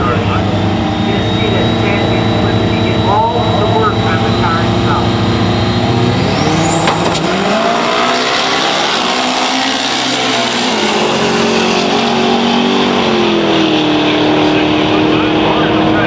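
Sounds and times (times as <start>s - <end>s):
drag racing cars at full throttle: 0.0s - 16.0s.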